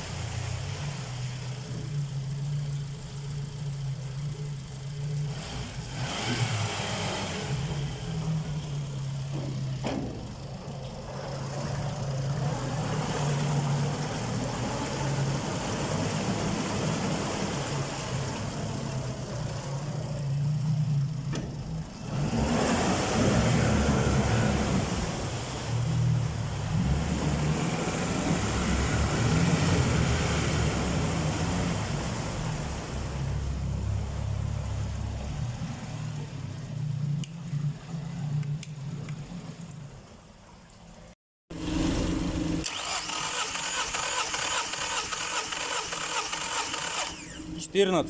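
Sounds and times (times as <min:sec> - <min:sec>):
outboard motor running: 0:00.0 - 0:40.2, 0:41.5 - 0:48.0.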